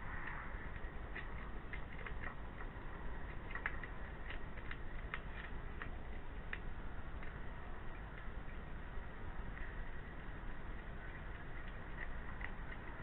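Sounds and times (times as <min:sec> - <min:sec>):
steady low hiss: 0:00.0 - 0:13.0
hedgehog chewing dry food: 0:00.1 - 0:13.0.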